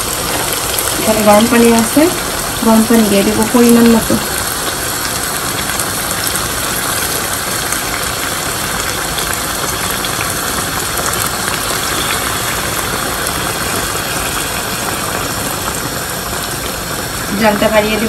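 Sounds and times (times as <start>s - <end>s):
water pouring into a pan: 0.0s - 18.0s.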